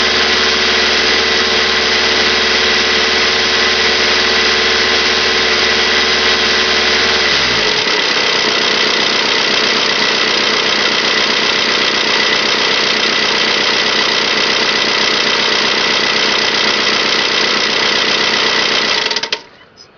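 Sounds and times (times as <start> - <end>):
diesel engine clatter: 0.0 - 19.9.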